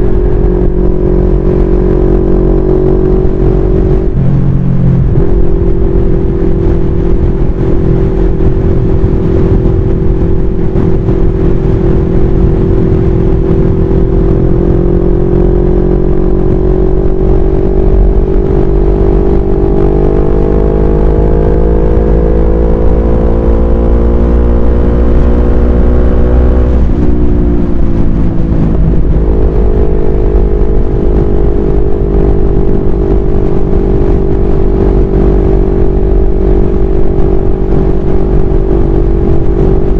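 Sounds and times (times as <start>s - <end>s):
motorcycle engine droning: 0.0s - 39.9s
wind rumble on microphone: 0.0s - 39.9s.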